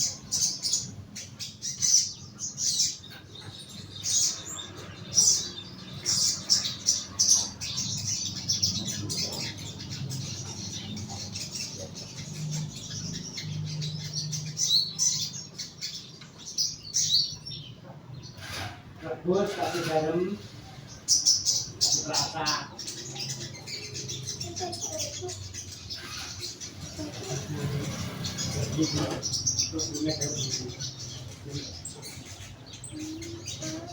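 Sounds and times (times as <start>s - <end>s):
young bird high chirps: 0.0s - 18.8s, 19.5s - 33.9s.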